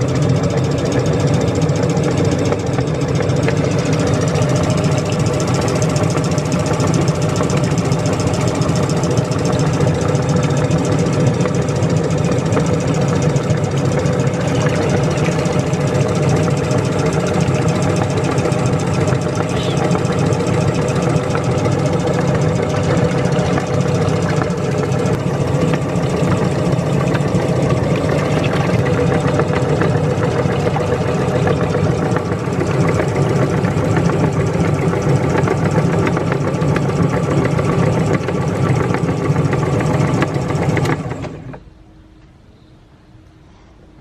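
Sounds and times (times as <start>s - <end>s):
meat grinder motor running: 0.0s - 41.7s.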